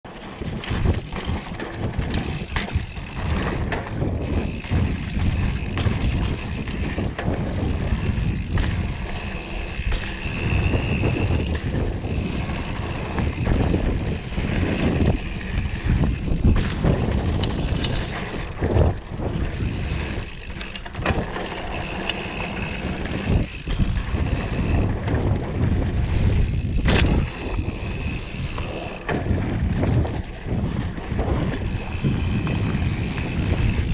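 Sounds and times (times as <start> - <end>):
bike knocks and rattles: 0.1 - 33.9
bike tyres rolling on dirt: 0.1 - 33.9
wind buffeting microphone: 0.1 - 33.9.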